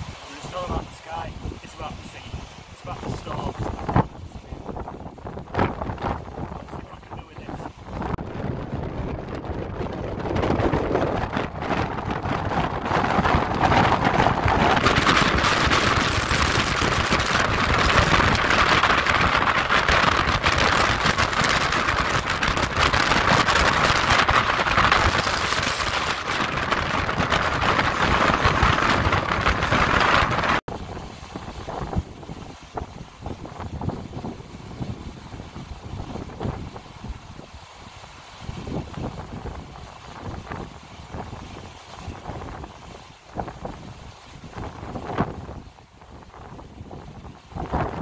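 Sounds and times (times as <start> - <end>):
wind blowing across microphone: 0.0 - 48.0.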